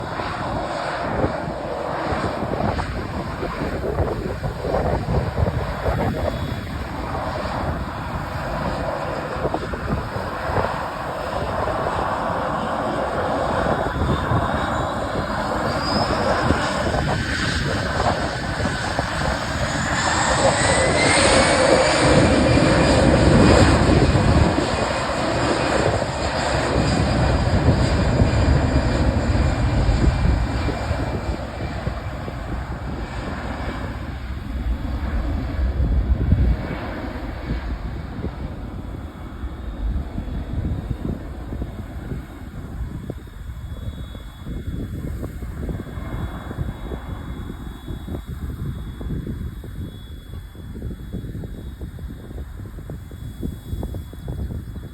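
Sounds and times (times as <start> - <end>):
jet engines spooling up: 0.0 - 54.9.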